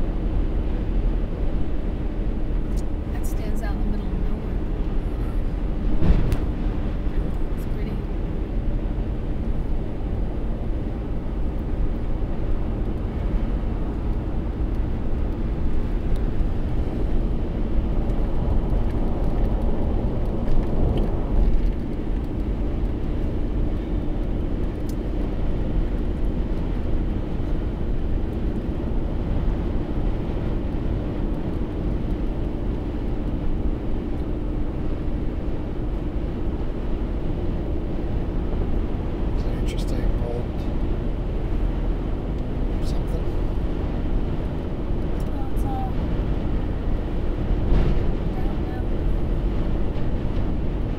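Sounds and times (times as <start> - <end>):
low engine hum: 0.0 - 50.9
tyre roar on asphalt: 0.0 - 50.9.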